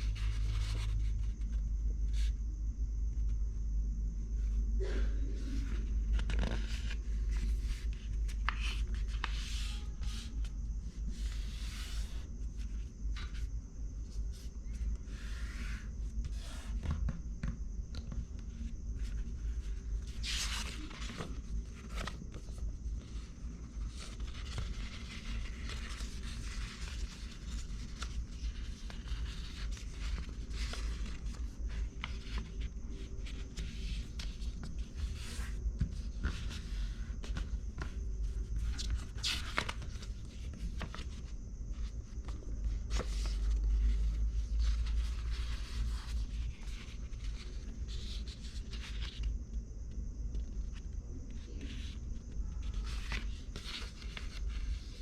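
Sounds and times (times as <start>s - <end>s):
paper rustling and scraping: 0.0s - 2.3s, 5.4s - 17.1s, 18.0s - 49.3s, 51.4s - 55.0s
steady low hum: 0.0s - 55.0s.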